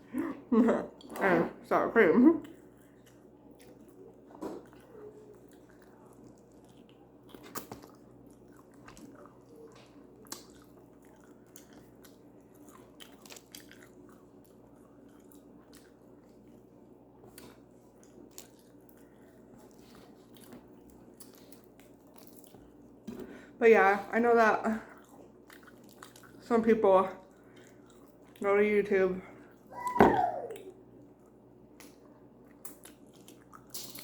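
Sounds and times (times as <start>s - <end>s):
person chewing and crunching: 2.4s - 23.3s, 24.8s - 26.5s, 27.2s - 28.4s, 30.5s - 34.0s.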